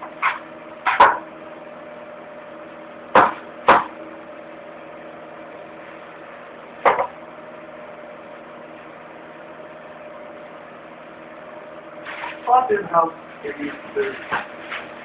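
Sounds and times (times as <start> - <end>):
fan heater humming: 0.0 - 15.0.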